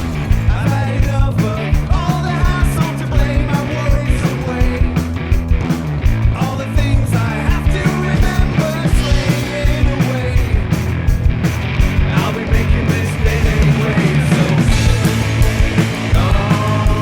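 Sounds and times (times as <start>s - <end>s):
drums beating steadily: 0.0s - 17.0s
rock band playing: 0.0s - 17.0s.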